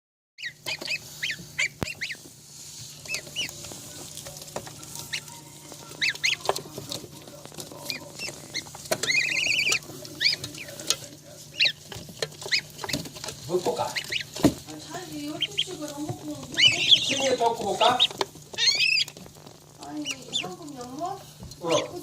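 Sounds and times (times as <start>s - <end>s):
ducklings peeping: 0.4s - 22.0s.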